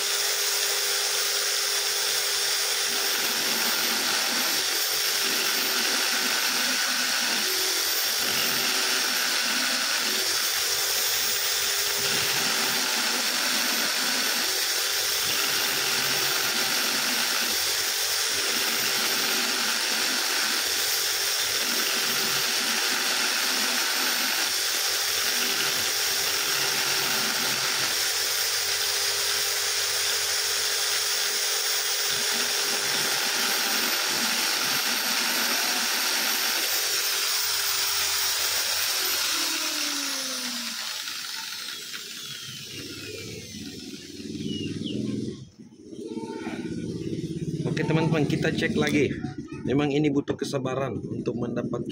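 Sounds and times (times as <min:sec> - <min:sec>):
electric drill grinding metal: 0:00.0 - 0:49.2.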